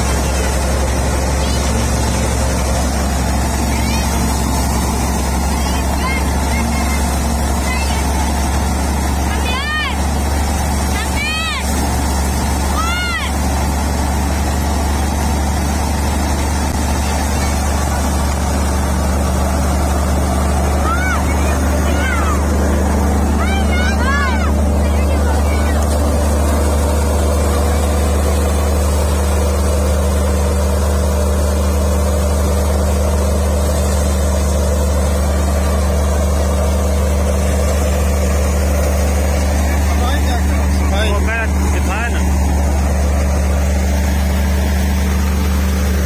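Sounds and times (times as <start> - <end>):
wheat thresher running: 0.0 - 46.0.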